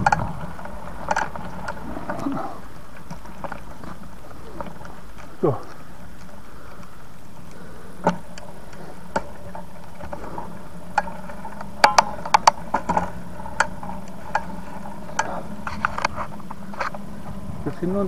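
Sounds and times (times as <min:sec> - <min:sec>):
bicycle clicks and ticks: 0:00.0 - 0:18.0
bicycle running hum: 0:00.0 - 0:18.0.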